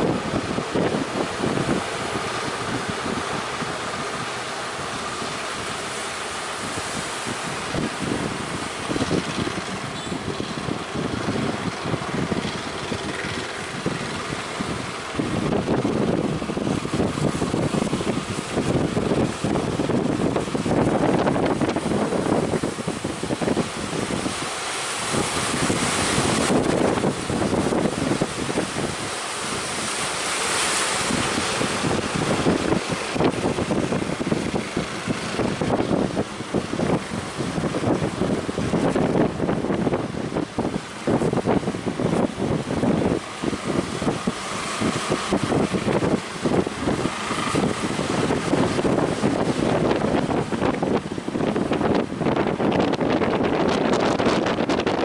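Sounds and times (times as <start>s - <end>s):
sea waves breaking: 0.0s - 55.0s
surf rushing: 0.0s - 55.0s
wind buffeting microphone: 0.0s - 55.0s.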